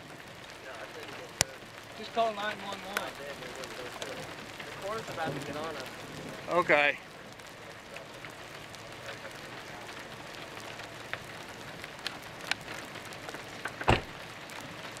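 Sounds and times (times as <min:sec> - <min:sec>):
light rain hiss: 0:00.0 - 0:15.0
raindrops ticking: 0:00.0 - 0:15.0.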